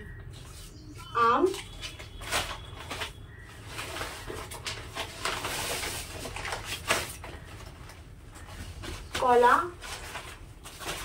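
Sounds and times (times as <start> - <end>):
paper bags rustling: 1.4 - 11.0.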